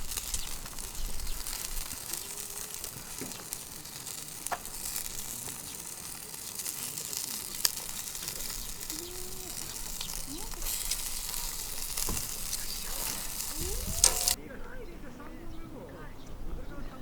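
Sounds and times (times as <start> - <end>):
food sizzling in a pan: 0.0 - 14.4.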